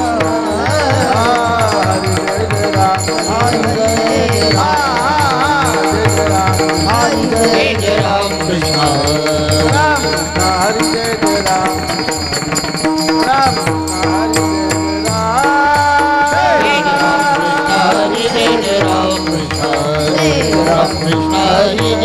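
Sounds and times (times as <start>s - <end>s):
solo voice singing: 0.0s - 11.9s, 13.3s - 22.0s
drum beat: 0.0s - 22.0s
ringing metallic percussion: 0.0s - 22.0s.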